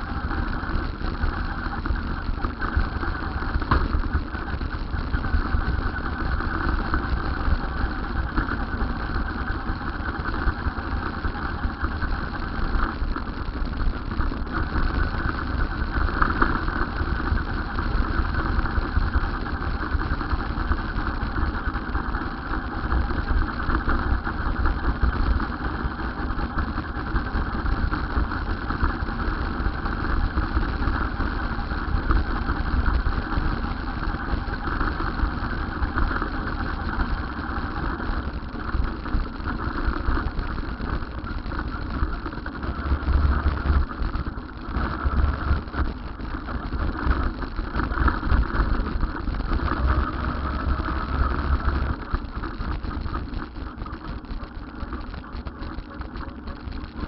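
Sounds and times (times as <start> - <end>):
vehicle running with low rumble: 0.0 - 57.0.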